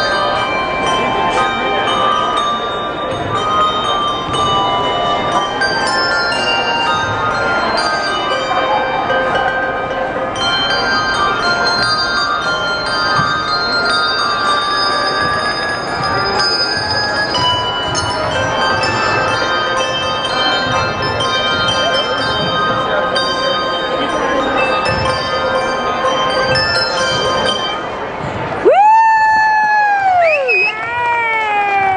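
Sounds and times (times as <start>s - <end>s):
handbell choir playing: 0.0s - 28.6s.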